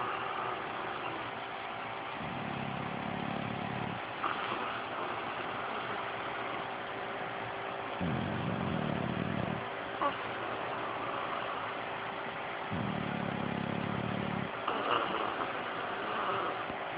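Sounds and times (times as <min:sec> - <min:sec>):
dog snoring: 0:00.0 - 0:01.3, 0:02.1 - 0:06.6, 0:08.0 - 0:11.8, 0:12.7 - 0:16.8
electric fan rushing: 0:00.0 - 0:16.9.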